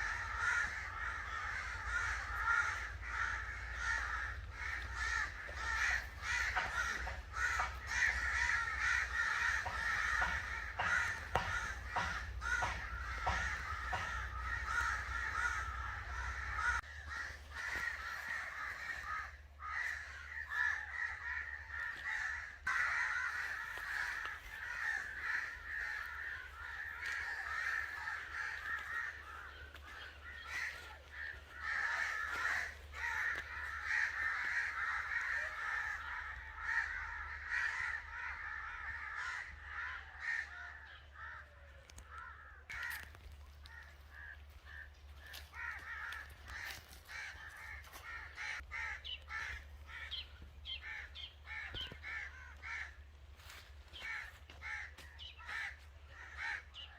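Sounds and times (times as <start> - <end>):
crows cawing: 0.0 - 56.9.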